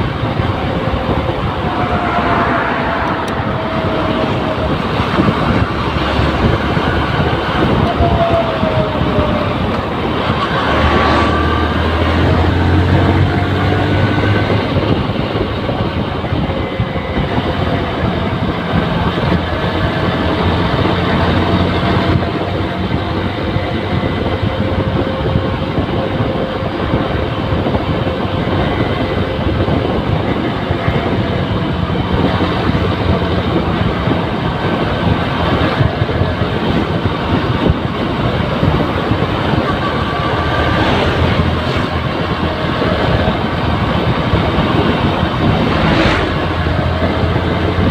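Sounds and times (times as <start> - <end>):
wind and road noise: 0.0 - 47.9.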